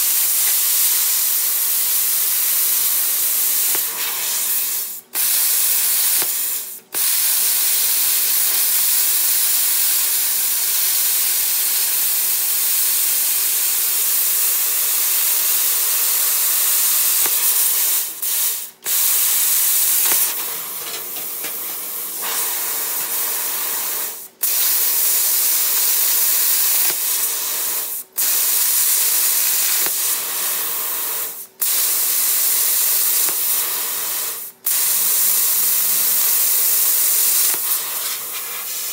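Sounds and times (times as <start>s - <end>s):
plasma cutter arc hissing: 0.0s - 38.9s.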